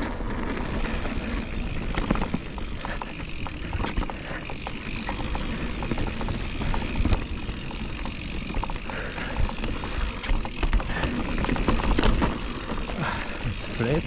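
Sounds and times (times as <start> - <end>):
bike clicks and rattles: 0.0 - 14.0
bike tyres rumbling on dirt: 0.0 - 14.0.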